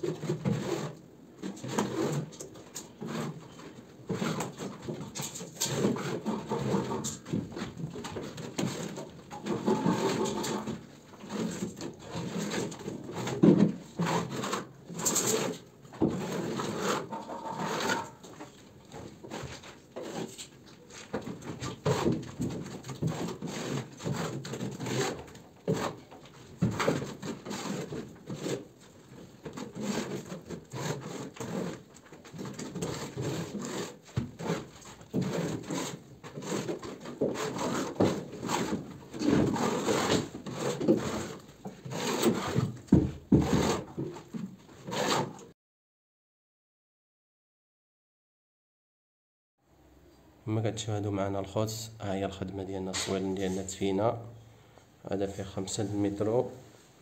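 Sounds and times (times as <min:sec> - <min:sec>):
plaster rubbing and scraping: 0:00.0 - 0:45.6, 0:52.8 - 0:53.7.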